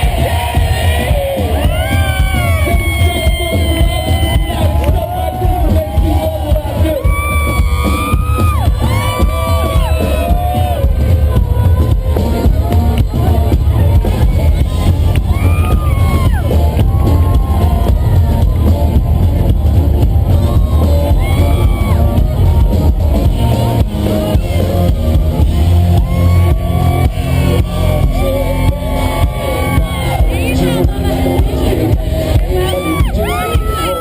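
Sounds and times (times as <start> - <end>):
crowd shouting and whooping: 0.0 - 34.0
live country-rock band: 0.0 - 34.0.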